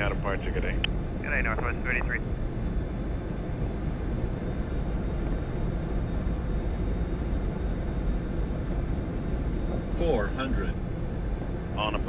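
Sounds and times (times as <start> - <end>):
air rushing past cockpit: 0.0 - 12.0
jet engines running: 0.0 - 12.0.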